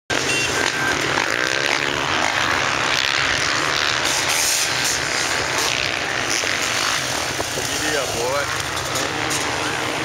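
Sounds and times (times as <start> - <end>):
dirt bike engines revving: 0.1 - 10.0.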